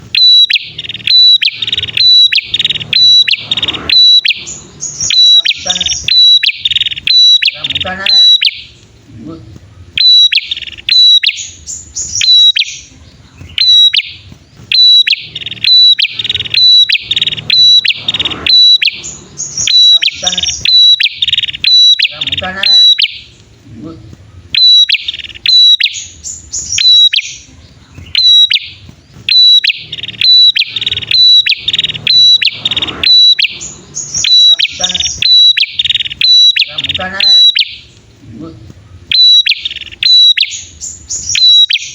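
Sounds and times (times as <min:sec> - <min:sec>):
songbirds calling: 0:00.0 - 0:41.9.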